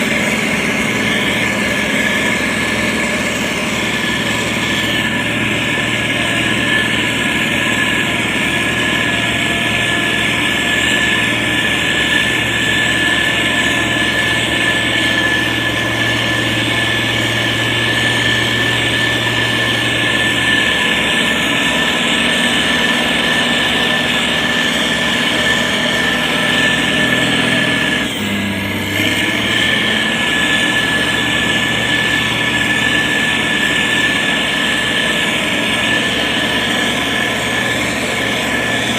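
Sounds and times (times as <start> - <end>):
diesel engine running: 0.0 - 38.9
high-pitched whine: 0.0 - 38.9.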